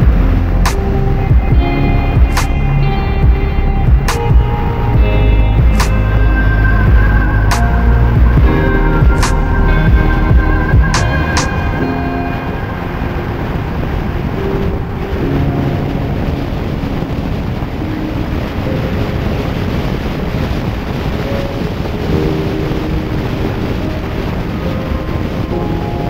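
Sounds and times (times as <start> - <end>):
road and wind noise: 0.0 - 26.0
wind buffeting microphone: 0.0 - 26.0.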